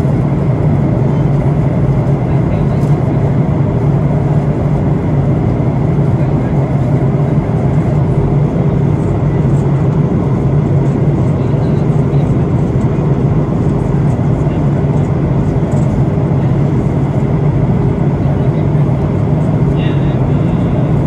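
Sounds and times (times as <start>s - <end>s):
jet engine drone: 0.0s - 21.0s.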